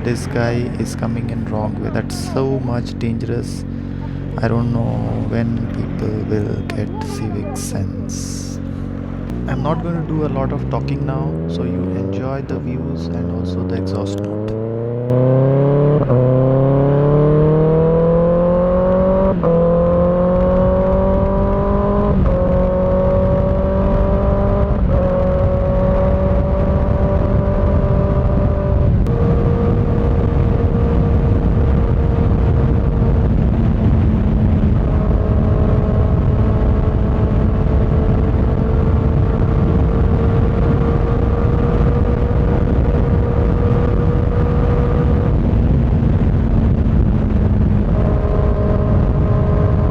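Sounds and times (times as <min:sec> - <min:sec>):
motorcycle engine accelerating: 0:00.0 - 0:49.9
wind noise: 0:00.0 - 0:49.9.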